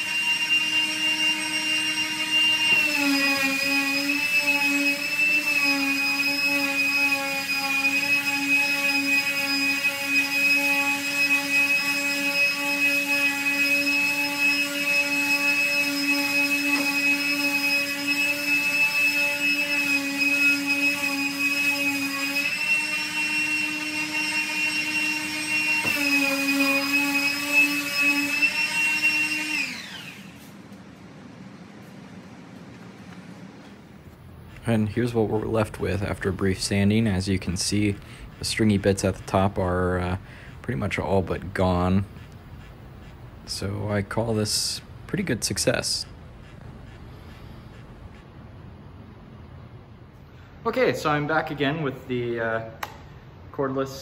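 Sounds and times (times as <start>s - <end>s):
orbital sander motor hum: 0.0s - 31.1s, 34.1s - 48.3s.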